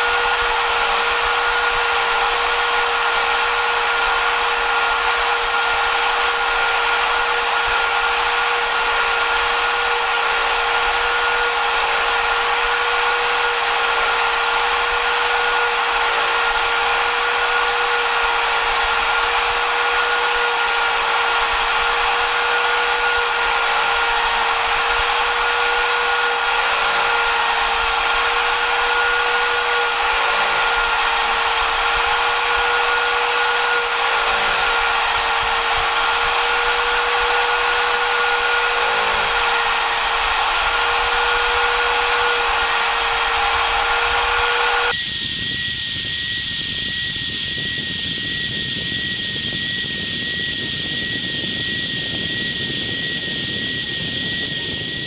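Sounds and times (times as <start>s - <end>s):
router milling wood: 0.0s - 45.0s.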